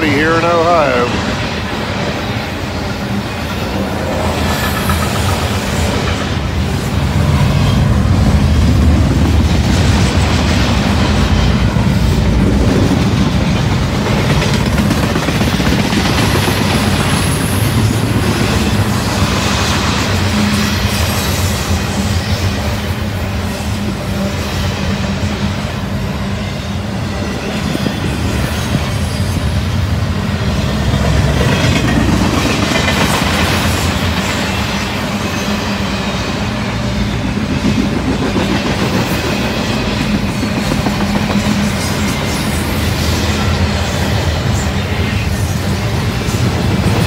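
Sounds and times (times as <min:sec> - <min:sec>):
freight train wheels rumbling on rails: 0:00.0 - 0:47.0.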